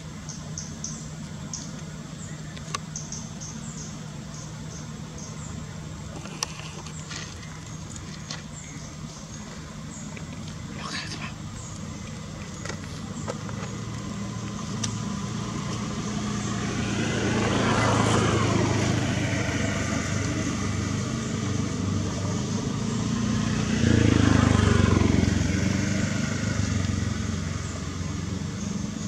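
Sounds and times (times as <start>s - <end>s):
vehicles passing by: 0.0s - 29.0s.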